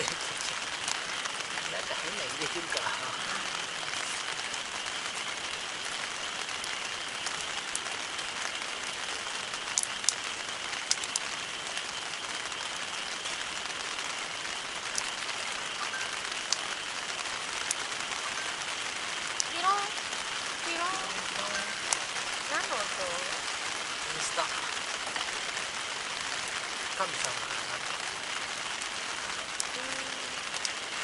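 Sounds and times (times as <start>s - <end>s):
campfire hissing and crackling: 0.0s - 31.0s.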